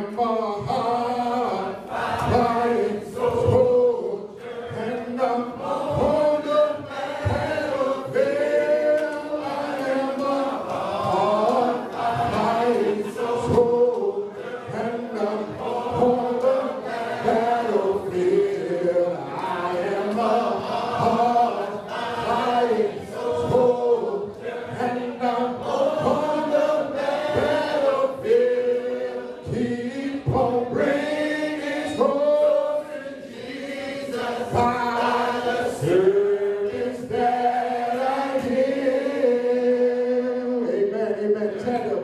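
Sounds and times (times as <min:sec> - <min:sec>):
man singing into a microphone: 0:00.0 - 0:42.0
voices singing a hymn: 0:00.0 - 0:42.0.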